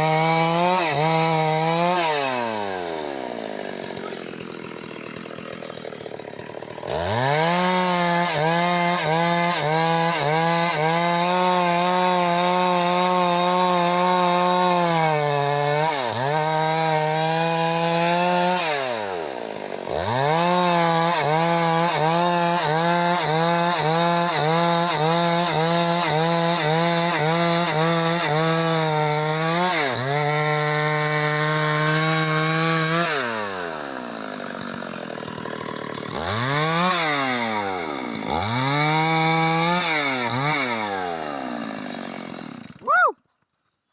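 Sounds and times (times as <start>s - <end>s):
chainsaw cutting tree: 0.0s - 43.6s.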